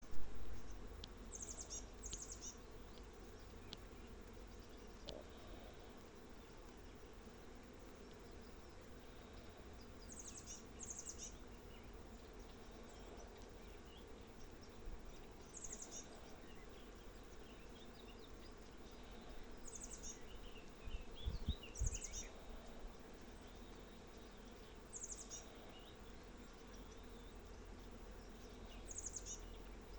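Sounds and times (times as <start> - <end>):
honeybees buzzing: 0.3 - 29.9.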